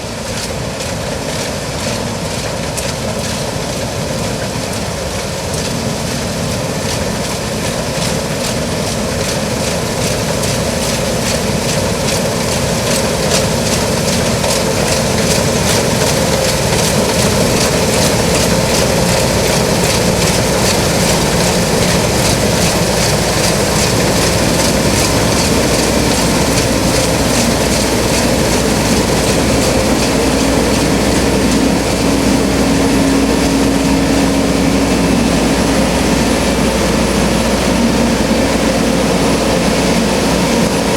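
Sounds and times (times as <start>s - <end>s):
combine harvester engine rumble: 0.0s - 40.9s
steady hum: 0.0s - 40.9s.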